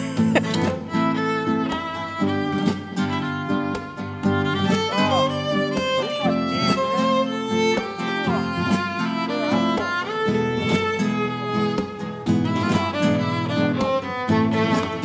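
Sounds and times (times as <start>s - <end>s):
fiddle melody: 0.0s - 15.0s
strummed guitar: 0.0s - 15.0s.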